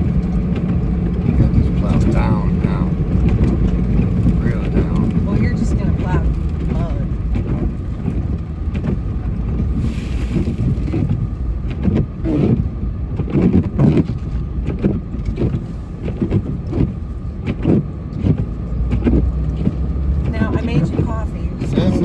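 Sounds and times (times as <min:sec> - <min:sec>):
plow scraping road surface: 0:00.0 - 0:22.0
snowplow engine running: 0:00.0 - 0:22.0.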